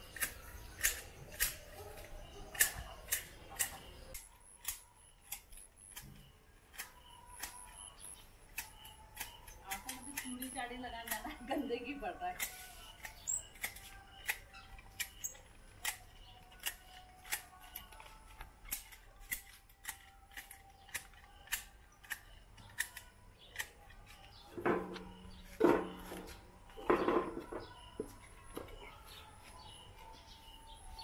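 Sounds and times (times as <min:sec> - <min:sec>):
hedge shears snipping: 0:00.0 - 0:26.3.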